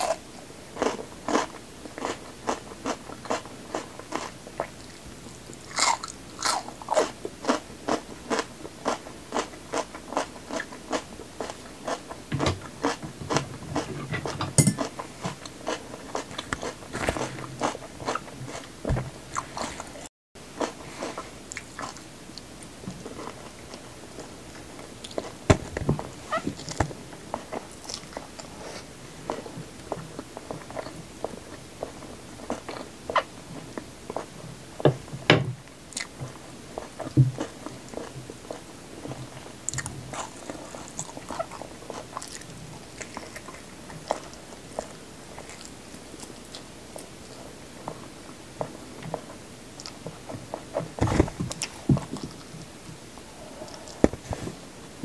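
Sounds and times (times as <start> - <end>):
crunchy chewing of pepper: 0.0 - 34.4, 35.9 - 52.6.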